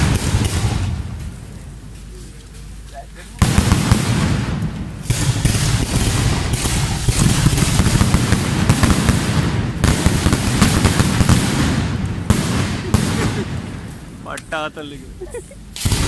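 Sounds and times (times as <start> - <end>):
loud firework bursts: 0.0 - 1.9, 3.3 - 16.0
fireworks crackling: 0.0 - 16.0.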